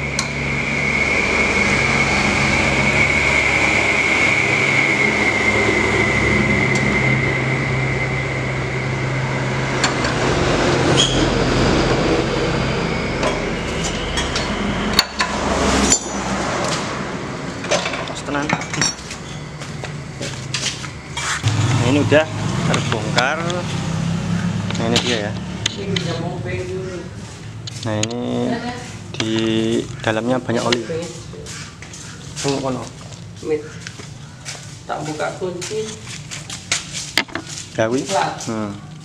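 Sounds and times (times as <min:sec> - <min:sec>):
low hum: 0:00.0 - 0:34.4
high-pitched whine: 0:00.0 - 0:39.0.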